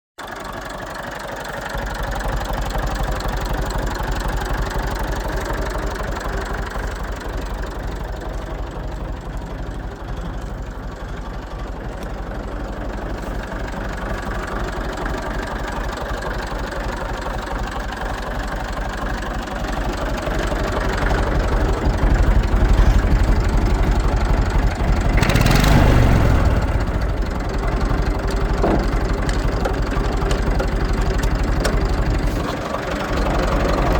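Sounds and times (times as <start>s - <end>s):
tractor engine idling: 0.2s - 33.9s.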